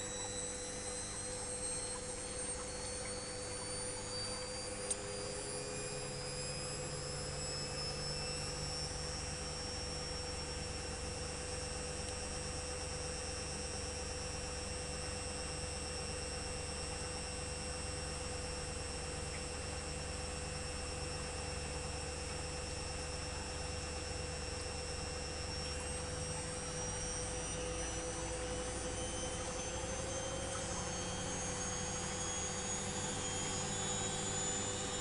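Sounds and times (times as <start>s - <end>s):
washing machine motor whine: 0.0s - 35.0s.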